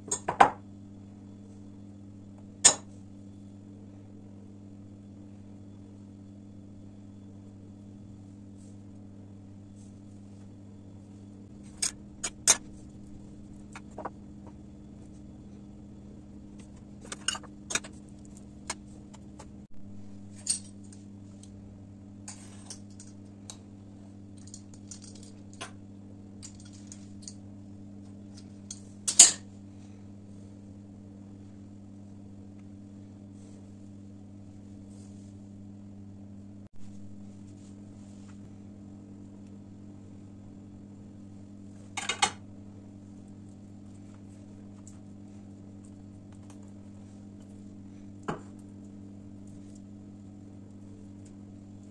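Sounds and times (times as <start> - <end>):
low hum: 0.0 - 51.9.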